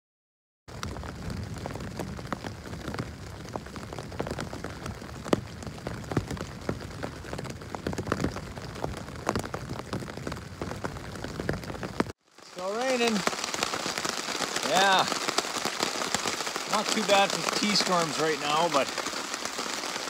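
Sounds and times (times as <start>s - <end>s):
rain hissing on tent fabric: 0.7s - 20.0s
raindrops tapping: 0.7s - 20.0s.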